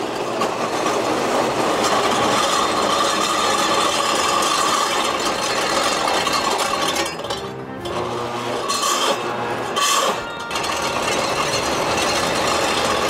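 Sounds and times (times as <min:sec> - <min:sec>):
grinding noise: 0:00.0 - 0:13.0
table saw motor whine: 0:00.0 - 0:13.0.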